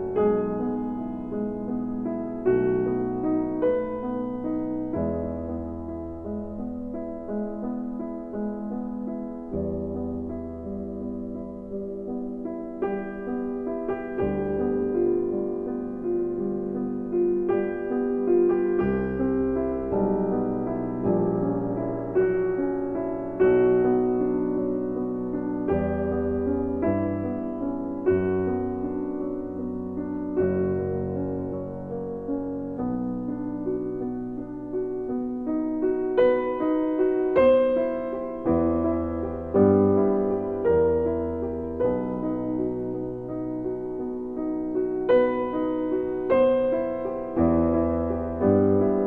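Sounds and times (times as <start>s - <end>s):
slow piano music: 0.0s - 49.0s.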